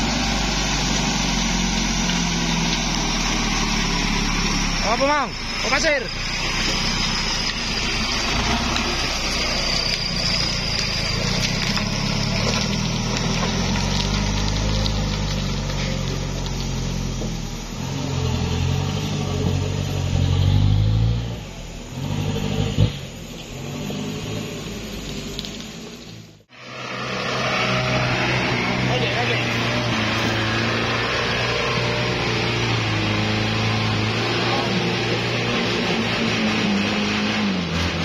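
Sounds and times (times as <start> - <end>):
diesel truck engine revving: 0.0 - 38.0.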